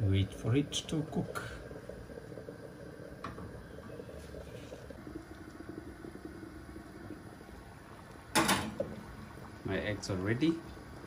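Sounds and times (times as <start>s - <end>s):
gas stove burners rumbling: 0.0s - 11.0s.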